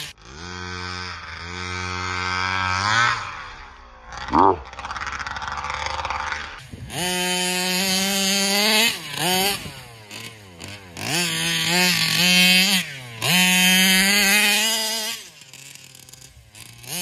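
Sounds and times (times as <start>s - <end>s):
rc car engine revving: 0.0s - 17.0s.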